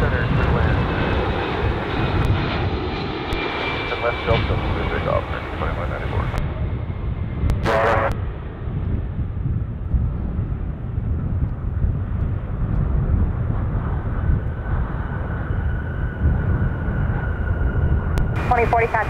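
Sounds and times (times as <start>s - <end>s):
jet airliner rumble: 0.0s - 19.0s
jet engine whine: 0.0s - 19.0s.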